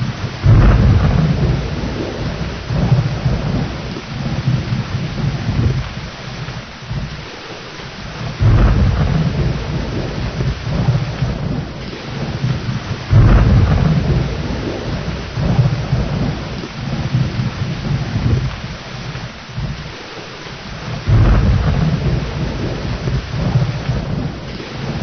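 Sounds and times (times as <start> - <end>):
heavy rain: 0.0 - 25.0
rumbling thunder: 0.0 - 25.0.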